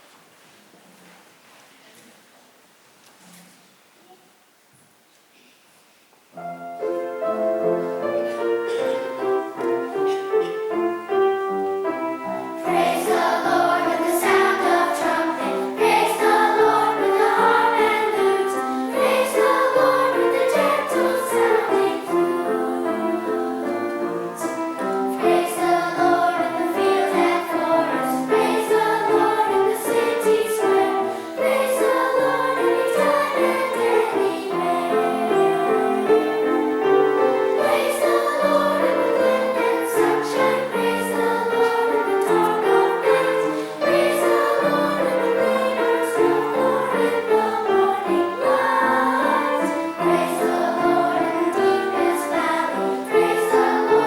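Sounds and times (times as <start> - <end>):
piano: 6.2 - 54.0
children's choir singing: 6.4 - 54.0.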